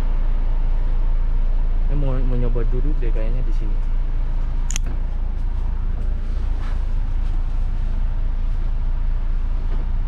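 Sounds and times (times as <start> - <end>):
bus engine idling: 0.0 - 10.0.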